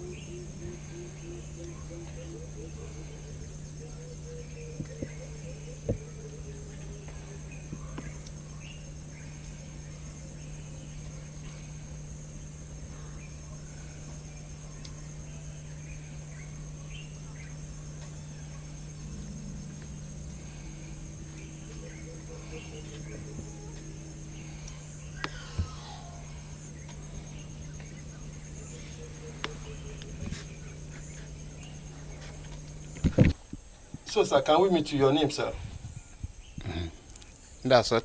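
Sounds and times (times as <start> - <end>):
bird chirps: 0.0 - 11.7, 12.8 - 33.0
insect noise: 0.0 - 38.0
steady low hum: 0.0 - 38.0.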